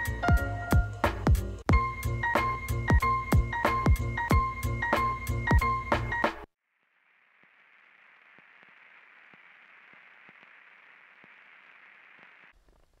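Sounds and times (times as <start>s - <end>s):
faint static hiss: 0.0s - 13.0s.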